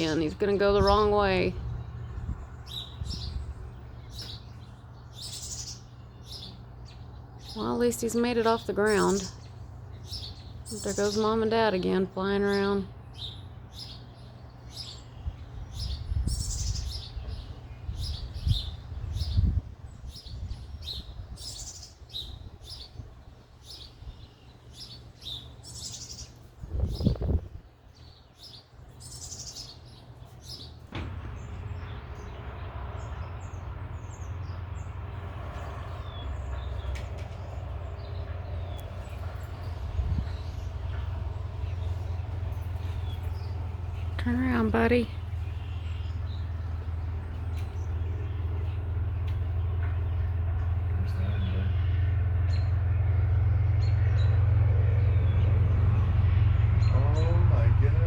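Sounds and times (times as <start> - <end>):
steady low rumble: 0.0 - 23.3, 31.0 - 58.0
songbirds chirping: 0.0 - 58.0.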